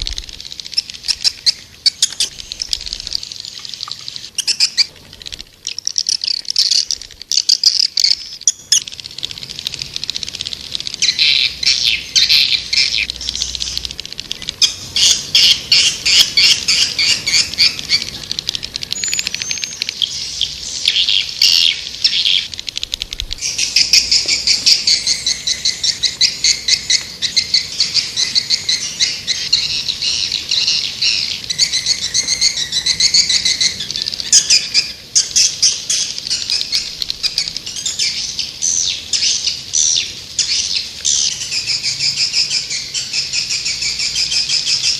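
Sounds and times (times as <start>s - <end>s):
swiftlets twittering: 0.0s - 38.2s.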